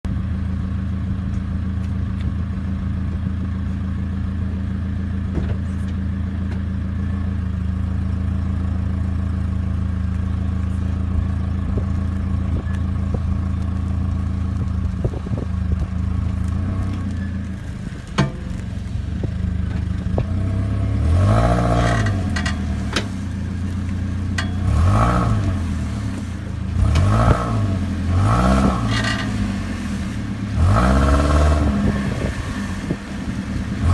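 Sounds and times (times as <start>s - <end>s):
engine idling and revving: 0.0s - 33.9s.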